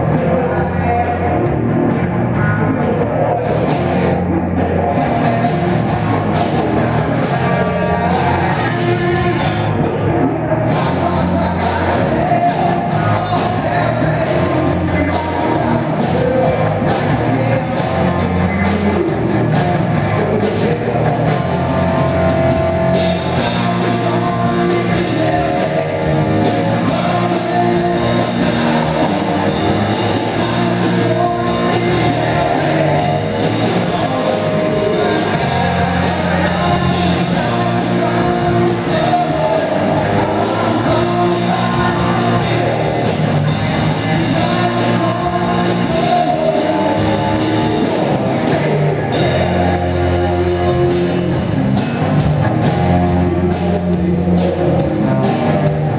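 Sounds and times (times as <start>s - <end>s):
person singing: 0.0s - 1.7s, 2.3s - 51.6s
live rock band playing: 0.0s - 55.9s.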